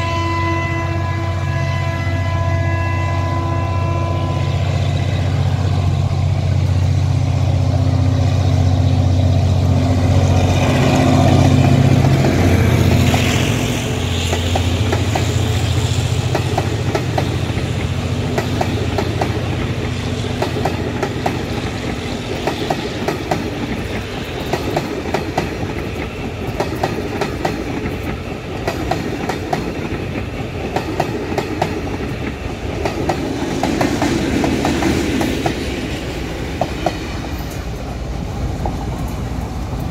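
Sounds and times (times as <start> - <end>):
locomotive engine drone: 0.0 - 39.9
train wheels clicking over rail joints: 4.8 - 39.9.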